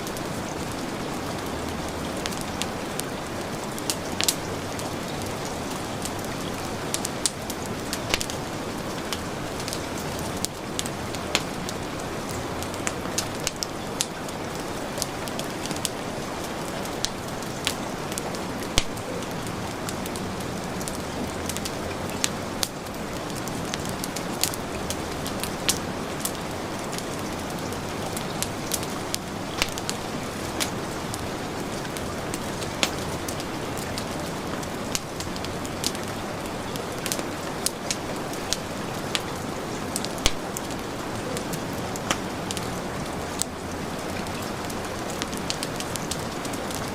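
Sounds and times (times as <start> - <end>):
heavy rain: 0.0 - 46.9
wood fire crackling and popping: 0.0 - 46.9.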